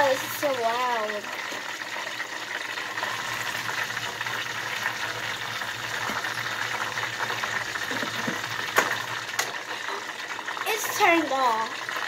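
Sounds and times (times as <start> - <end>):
hot oil sizzling in a pan: 0.0 - 12.0.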